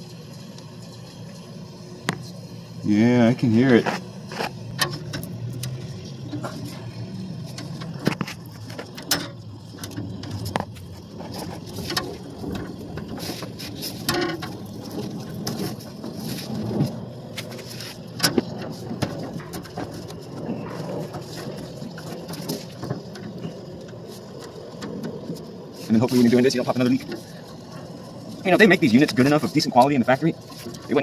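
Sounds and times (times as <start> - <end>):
copper tubes clicking and knocking: 0.0 - 31.0
gas hissing from leak: 0.0 - 31.0.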